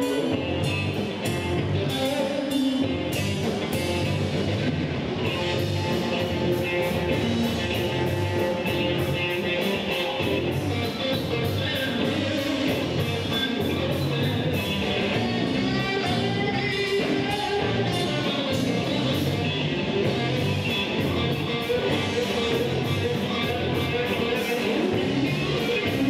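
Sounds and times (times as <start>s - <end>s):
drum kit with cymbals: 0.0s - 26.0s
electric guitars: 0.0s - 26.0s.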